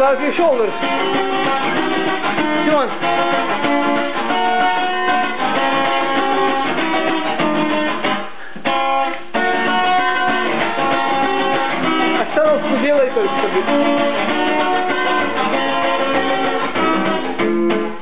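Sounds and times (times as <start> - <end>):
strummed and plucked guitar: 0.0 - 18.0.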